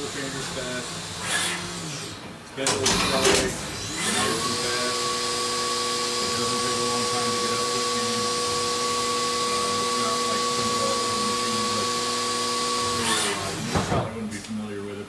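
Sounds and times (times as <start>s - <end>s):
machine spindle whine: 0.0s - 14.0s.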